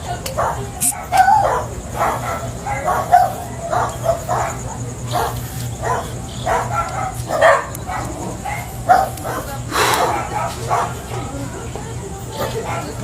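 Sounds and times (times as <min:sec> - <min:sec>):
dog barking: 0:00.3 - 0:11.3, 0:12.3 - 0:13.0.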